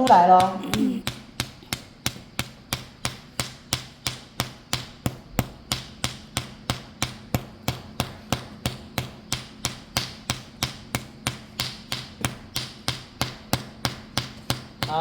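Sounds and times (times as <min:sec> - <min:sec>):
hand slapping bare skin: 0:00.0 - 0:15.0.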